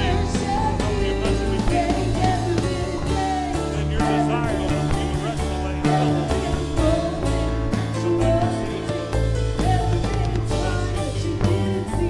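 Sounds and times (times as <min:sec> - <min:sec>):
bass: 0:00.0 - 0:12.0
drum kit: 0:00.0 - 0:12.0
person singing: 0:00.0 - 0:12.0.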